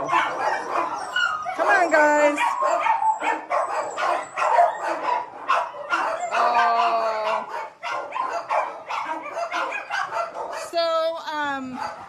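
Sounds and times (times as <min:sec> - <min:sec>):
dog howling: 0:00.0 - 0:10.8
dogs barking: 0:00.0 - 0:12.0.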